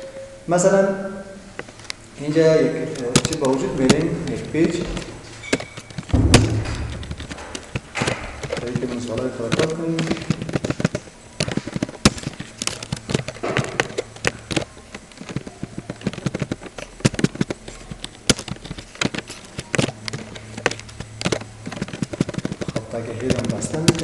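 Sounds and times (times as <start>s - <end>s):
computer keyboard typing: 2.9s - 24.0s.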